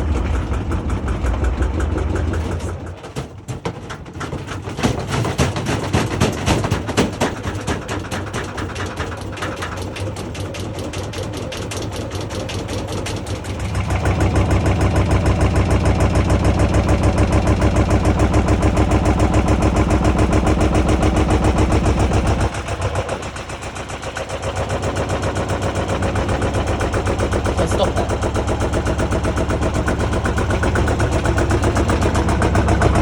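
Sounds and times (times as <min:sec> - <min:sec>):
washing machine drum banging: 0:00.0 - 0:33.0.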